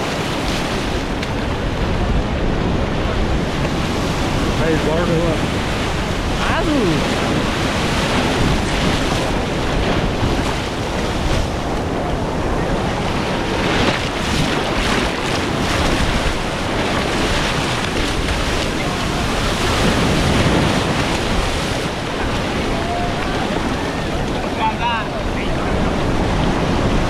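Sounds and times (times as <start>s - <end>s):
sea surf washing in: 0.0s - 27.0s
wind buffeting microphone: 0.0s - 27.0s.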